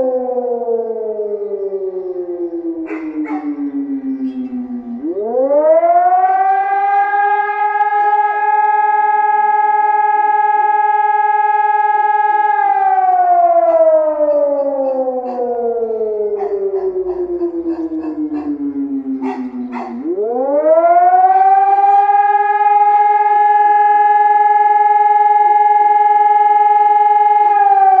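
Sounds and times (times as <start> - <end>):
civil defence siren wailing: 0.0 - 28.0.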